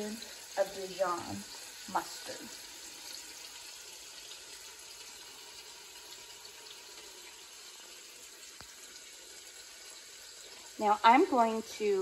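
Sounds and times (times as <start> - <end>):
bacon sizzling: 0.0 - 12.0.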